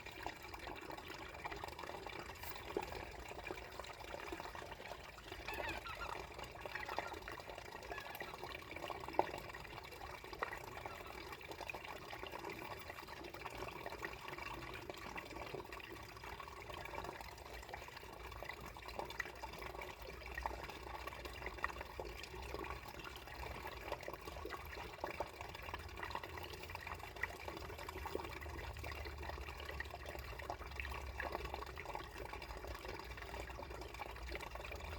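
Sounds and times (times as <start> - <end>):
water trickling beneath ice: 0.0 - 34.9.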